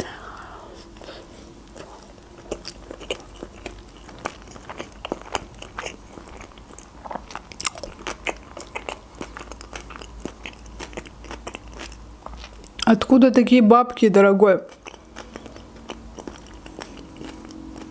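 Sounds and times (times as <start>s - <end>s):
person chewing food: 0.0s - 12.9s, 14.7s - 17.9s.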